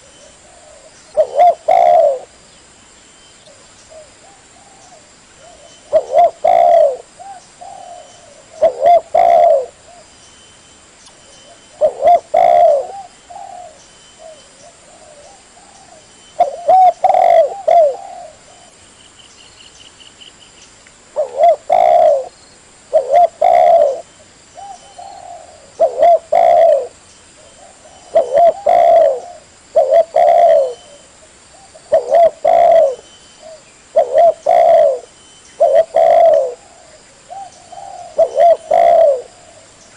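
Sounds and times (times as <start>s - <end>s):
dove cooing: 0.0s - 2.4s, 3.5s - 10.1s, 11.4s - 18.8s, 21.2s - 39.9s.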